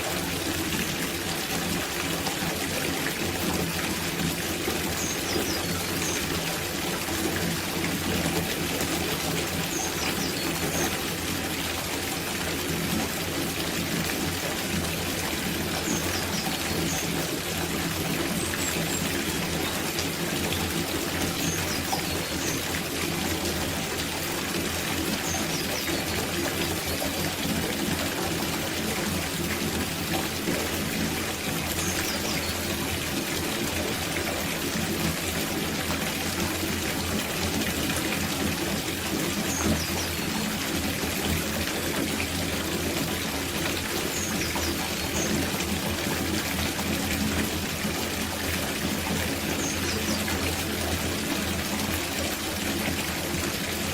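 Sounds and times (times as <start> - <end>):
water pouring from a tap: 0.0 - 53.9.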